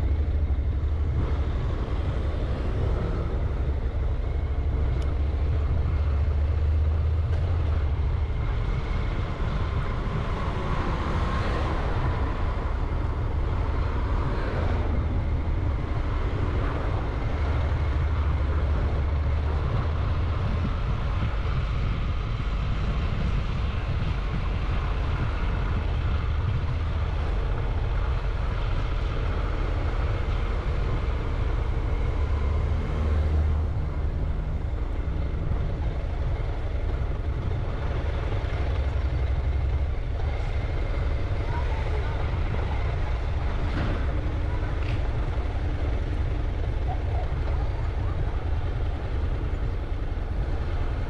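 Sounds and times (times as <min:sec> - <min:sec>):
road and wind noise: 0:00.0 - 0:51.0.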